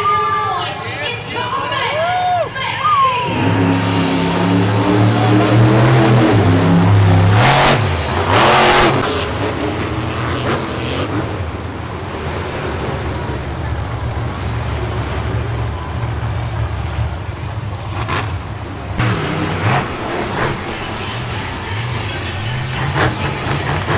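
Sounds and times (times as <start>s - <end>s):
monster truck engine revving: 3.0s - 23.9s.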